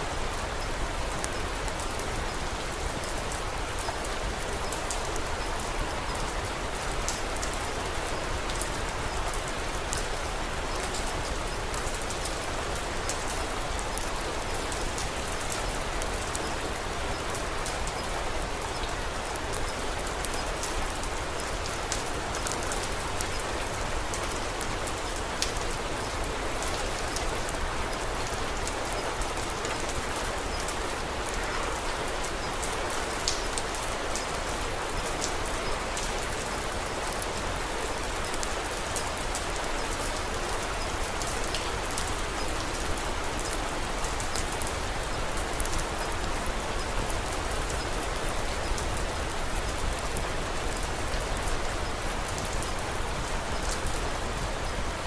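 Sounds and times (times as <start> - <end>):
steady rain hiss: 0.0 - 55.0
raindrops ticking: 0.1 - 55.0.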